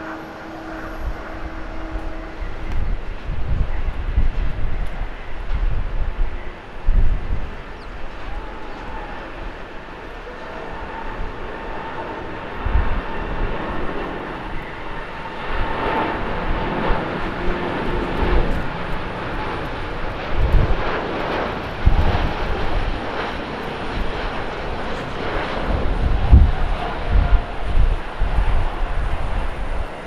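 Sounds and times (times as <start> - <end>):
jet engines at takeoff thrust: 0.0 - 30.0.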